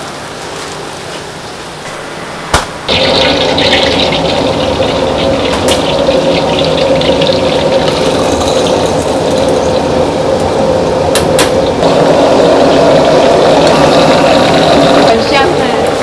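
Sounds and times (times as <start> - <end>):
water simmering in wok: 2.9 - 15.7
gas burner rushing: 2.9 - 16.0.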